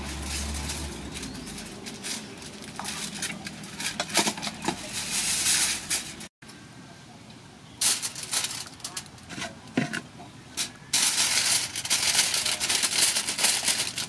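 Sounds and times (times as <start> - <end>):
foil crinkling and rustling: 0.0 - 6.3, 7.8 - 9.5, 10.6 - 14.0.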